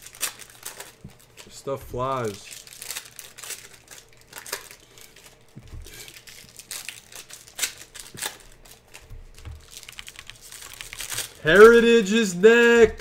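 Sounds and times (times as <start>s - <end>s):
foil wrappers crinkling: 0.0s - 13.0s.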